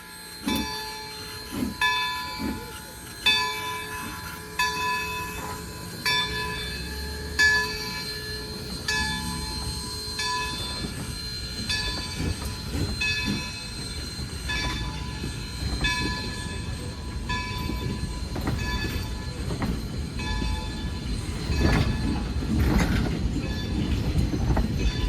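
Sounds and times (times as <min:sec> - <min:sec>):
low train rumble: 0:00.0 - 0:25.0
wheels ringing and squealing: 0:00.0 - 0:25.0
train wheels striking rail joints: 0:00.4 - 0:25.0.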